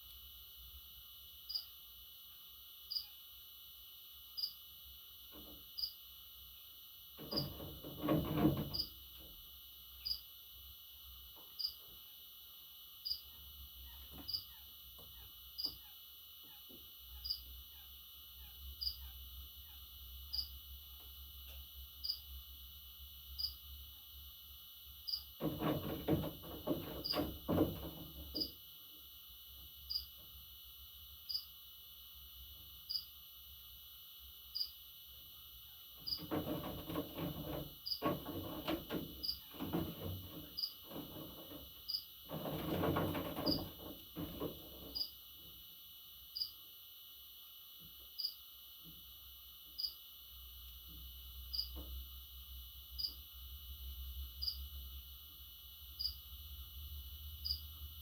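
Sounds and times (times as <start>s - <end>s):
cricket chirring: 0.0s - 3.5s, 4.2s - 7.6s, 8.6s - 9.1s, 9.7s - 25.8s, 26.6s - 29.2s, 29.8s - 30.2s, 31.1s - 45.3s, 46.1s - 46.8s, 48.1s - 48.6s, 49.7s - 50.2s, 51.4s - 51.8s, 52.8s - 56.4s, 57.2s - 57.8s.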